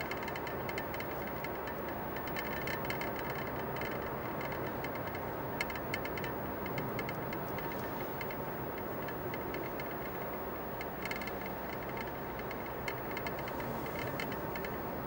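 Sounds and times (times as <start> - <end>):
car road and engine noise: 0.0 - 15.0
light ticks and rattles: 0.0 - 15.0.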